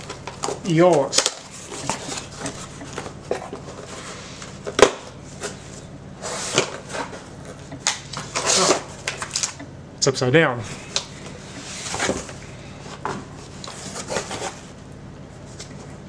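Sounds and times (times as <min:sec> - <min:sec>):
cardboard flaps scraping and rustling: 0:00.0 - 0:09.6, 0:11.2 - 0:14.8.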